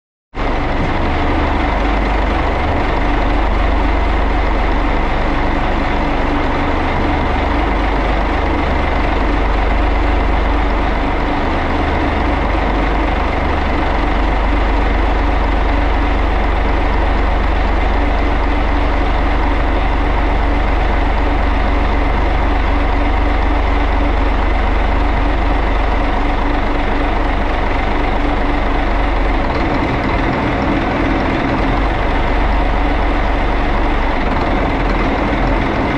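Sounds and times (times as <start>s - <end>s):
marine diesel engine idling: 0.4s - 35.9s.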